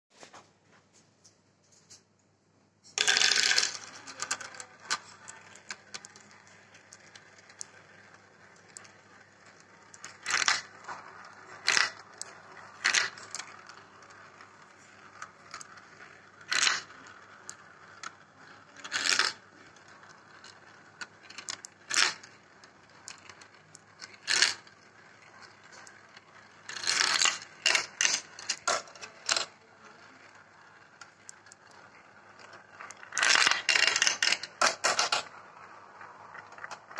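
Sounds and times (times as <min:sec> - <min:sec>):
marbles rolling on plastic track: 0:02.9 - 0:36.9
marbles clacking on plastic: 0:03.0 - 0:36.9.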